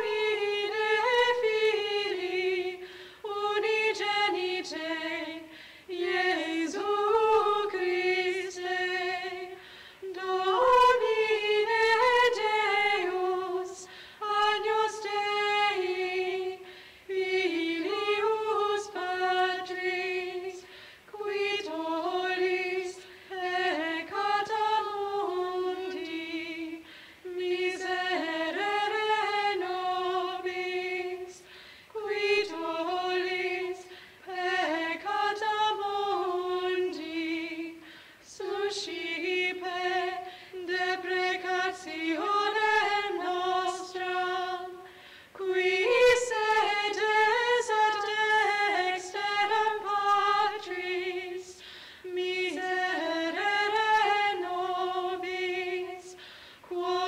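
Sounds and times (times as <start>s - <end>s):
voices singing a chant in unison: 0.0s - 57.0s.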